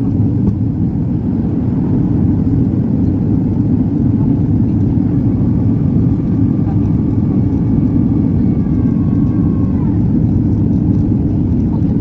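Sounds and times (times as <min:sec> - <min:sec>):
airflow over fuselage: 0:00.0 - 0:12.0
airliner engines roaring: 0:00.0 - 0:12.0.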